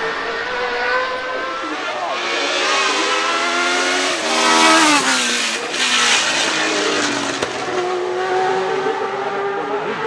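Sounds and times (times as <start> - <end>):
race car engine passing: 0.0 - 10.0.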